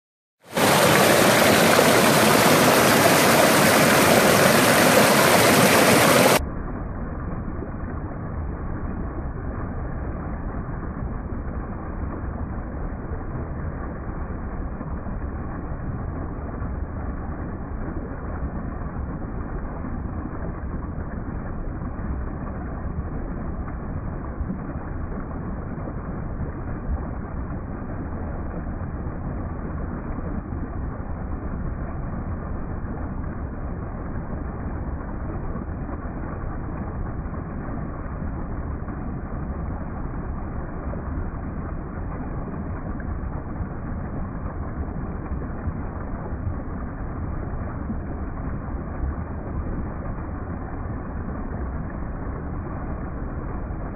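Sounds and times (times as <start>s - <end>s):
waterfall pouring into pool: 0.4s - 53.9s.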